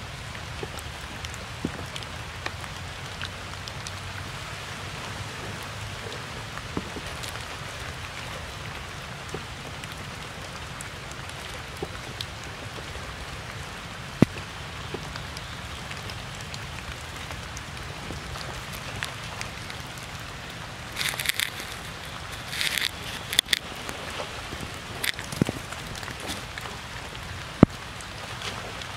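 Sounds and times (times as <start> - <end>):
rain falling on puddles: 0.0 - 28.9.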